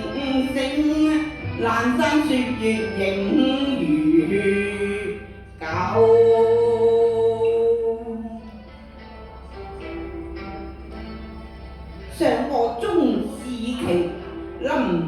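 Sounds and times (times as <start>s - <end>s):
slow melody with long held note: 0.0s - 15.0s.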